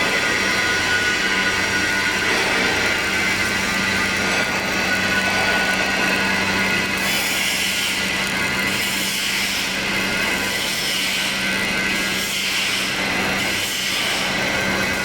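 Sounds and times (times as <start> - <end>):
welding equipment humming and hissing: 0.0 - 15.0.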